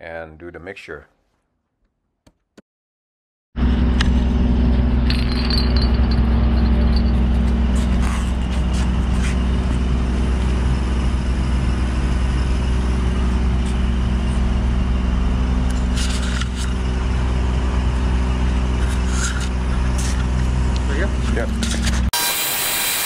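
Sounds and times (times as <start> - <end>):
engine idling: 3.6 - 22.1.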